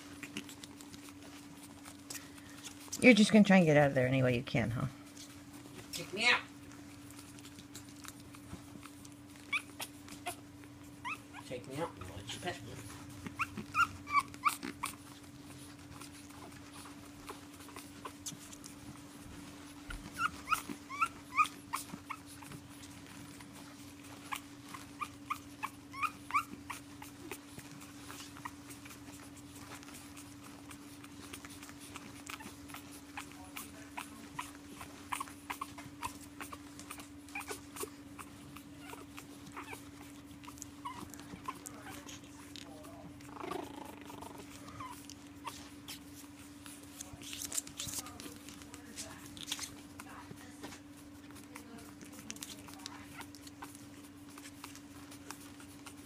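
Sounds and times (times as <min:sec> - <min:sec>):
puppies whining and yipping: 0:00.0 - 0:03.4, 0:05.1 - 0:56.0
steady low hum: 0:00.0 - 0:56.0.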